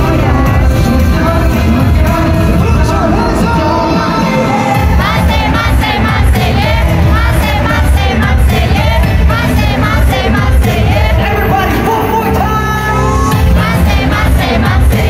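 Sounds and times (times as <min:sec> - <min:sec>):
loud pop music with heavy beat: 0:00.0 - 0:15.0
person singing: 0:00.0 - 0:15.0.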